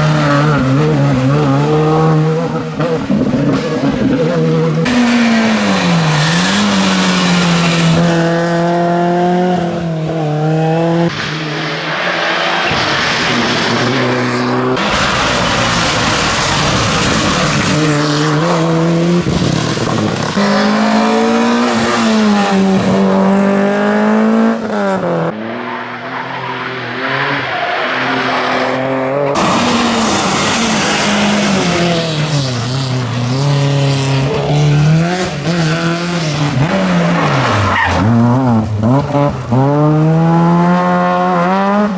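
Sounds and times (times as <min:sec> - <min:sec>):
rally car engines revving: 0:00.0 - 0:41.9
tyre and road noise: 0:00.0 - 0:41.9.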